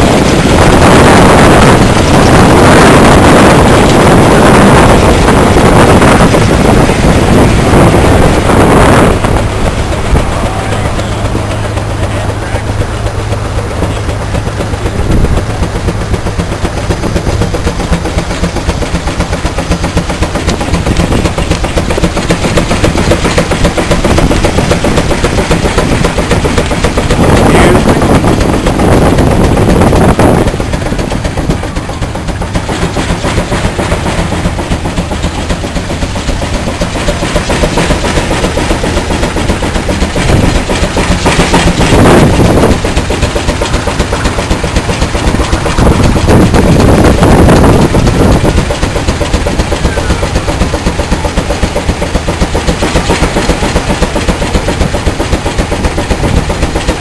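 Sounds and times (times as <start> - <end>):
rushes of noise: 0.0 - 57.0
steam engine exhaust chuffs: 0.0 - 57.0.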